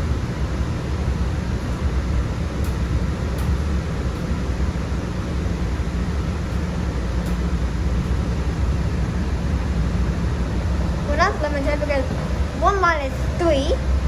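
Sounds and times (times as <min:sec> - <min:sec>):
light rail car running: 0:00.0 - 0:14.0.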